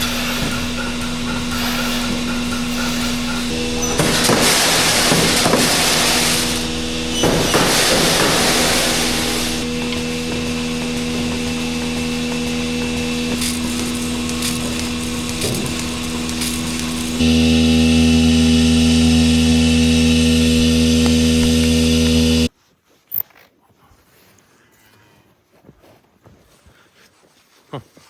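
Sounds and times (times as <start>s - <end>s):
motor-driven machine running: 0.0s - 22.5s.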